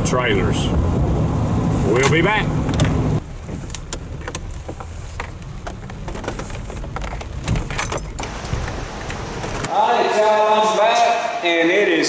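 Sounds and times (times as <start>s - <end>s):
vehicle rumble inside cab: 0.0s - 9.7s.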